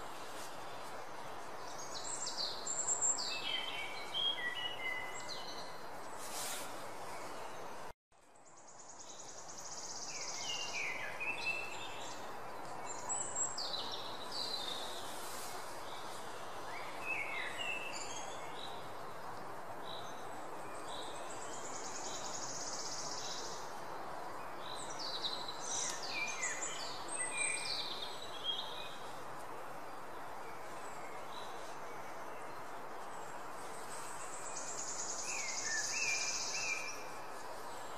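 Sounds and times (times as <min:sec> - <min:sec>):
background hiss: 0:00.0 - 0:37.9.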